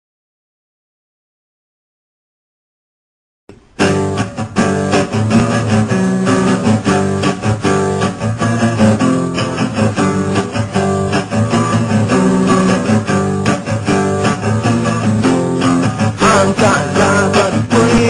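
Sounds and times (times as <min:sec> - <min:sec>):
instrumental guitar ringtone: 0:03.5 - 0:18.0.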